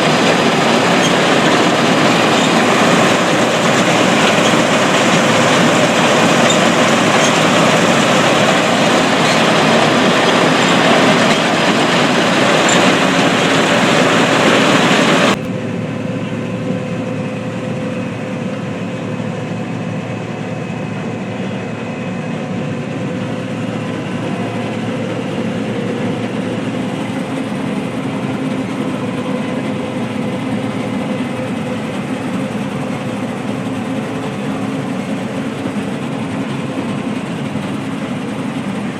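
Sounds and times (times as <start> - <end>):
harvest machinery running: 0.0 - 38.9.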